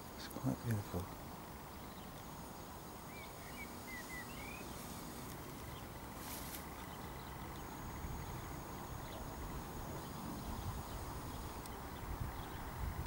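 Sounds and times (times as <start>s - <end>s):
low outdoor background noise: 0.0s - 13.0s
small bird chirping: 0.1s - 13.0s.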